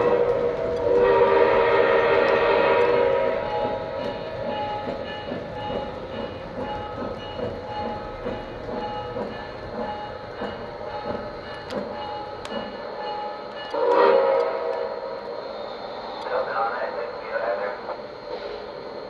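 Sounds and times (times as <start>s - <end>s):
toy train running on track: 0.0s - 17.8s.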